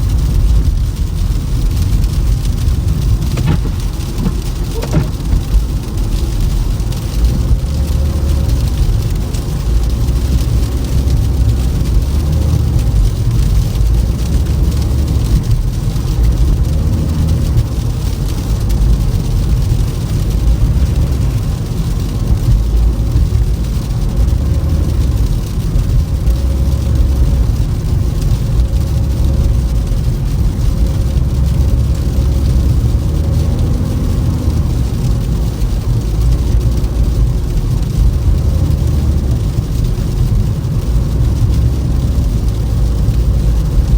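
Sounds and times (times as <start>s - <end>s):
car tyres and engine rumble: 0.0s - 43.9s.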